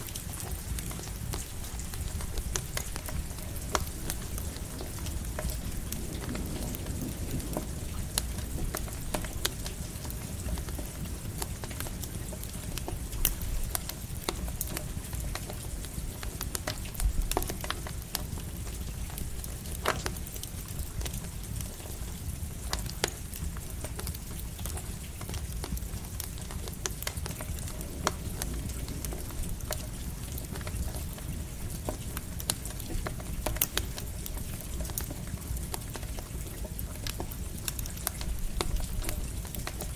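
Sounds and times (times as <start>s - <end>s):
campfire crackling and popping: 0.0s - 39.9s
light rain hissing: 0.0s - 39.9s.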